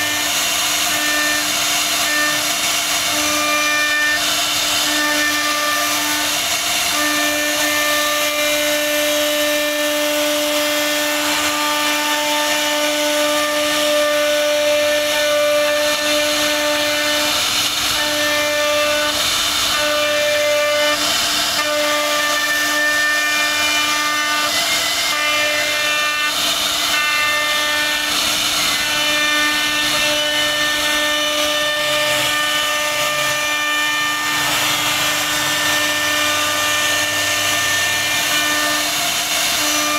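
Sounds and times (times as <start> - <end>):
router spindle whine: 0.0 - 39.9
wood being cut hiss: 0.0 - 39.9.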